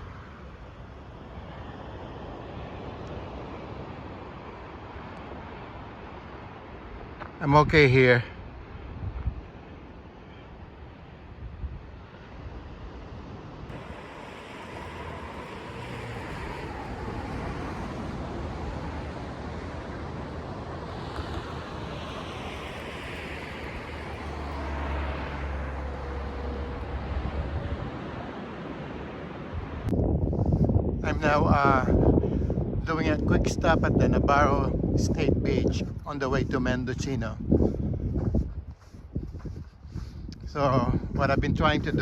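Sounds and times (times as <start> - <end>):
car engine and tyre noise: 0.0 - 42.0.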